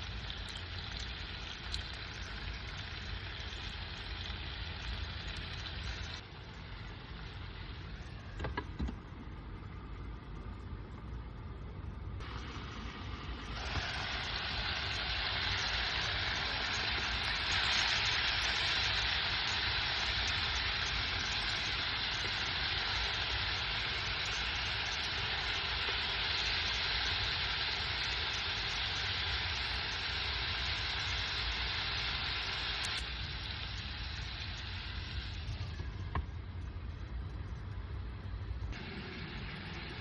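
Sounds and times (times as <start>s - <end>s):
food cooking hiss: 0.0s - 40.0s.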